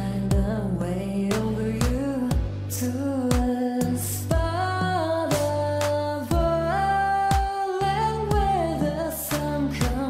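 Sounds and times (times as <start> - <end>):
held bass: 0.0 - 10.0.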